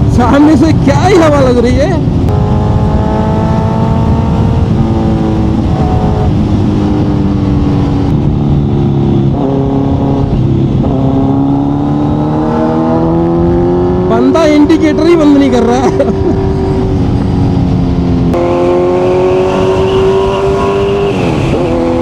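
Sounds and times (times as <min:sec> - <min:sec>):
motorcycle engine cruising: 0:00.0 - 0:22.0
wind rushing over microphone: 0:00.0 - 0:22.0.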